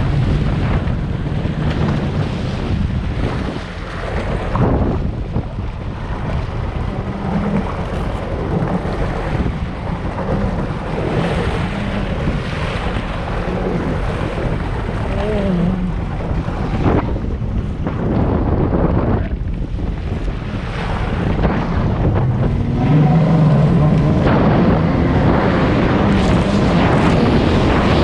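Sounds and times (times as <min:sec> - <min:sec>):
rushing water: 0:00.0 - 0:28.0
watercraft engine running: 0:00.0 - 0:28.0
wind buffeting microphone: 0:00.0 - 0:28.0.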